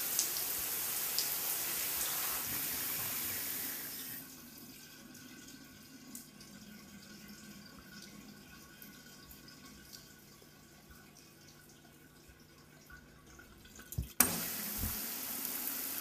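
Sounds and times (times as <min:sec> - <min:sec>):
faint water drips: 0:00.0 - 0:14.2
shower water running: 0:00.0 - 0:16.0.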